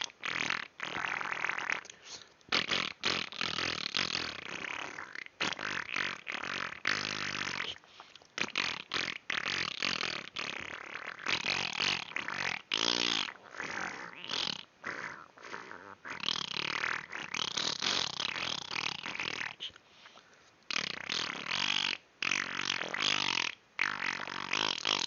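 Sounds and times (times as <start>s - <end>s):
person blowing raspberries: 0.0s - 25.0s.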